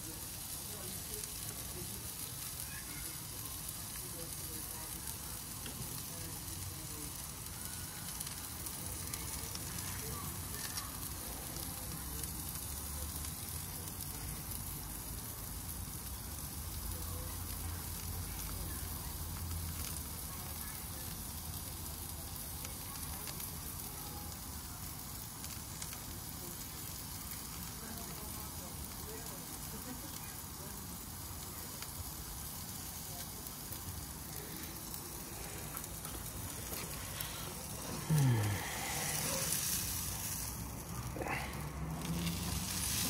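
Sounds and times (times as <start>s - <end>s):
steak sizzling: 0.0s - 43.0s.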